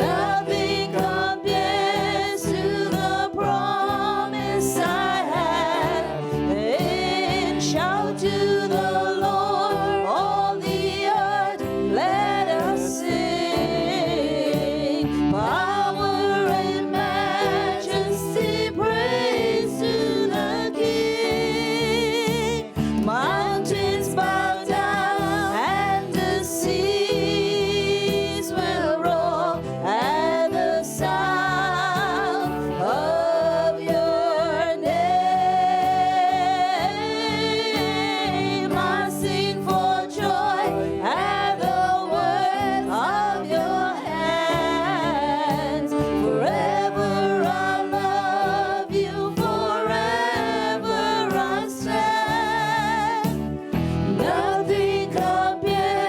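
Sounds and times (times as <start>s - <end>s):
gospel choir singing: 0.0s - 56.0s
held chords: 0.0s - 56.0s.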